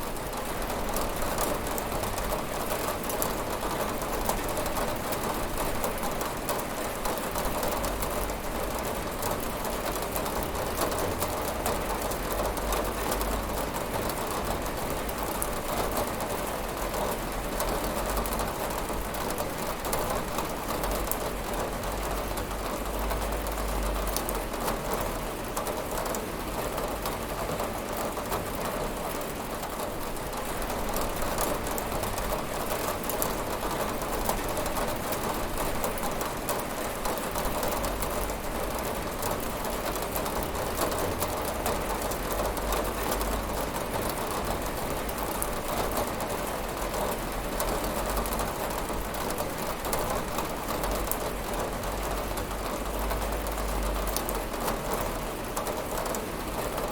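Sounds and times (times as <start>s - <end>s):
heavy rain on window: 0.0s - 56.9s.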